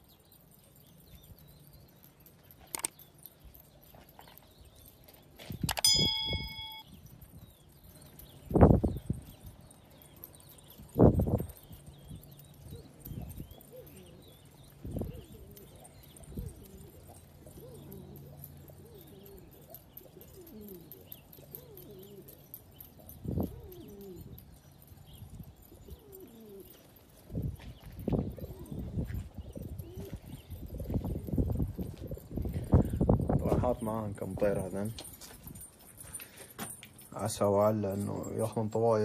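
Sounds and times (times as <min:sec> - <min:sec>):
pigeons cooing: 0:06.4 - 0:38.8.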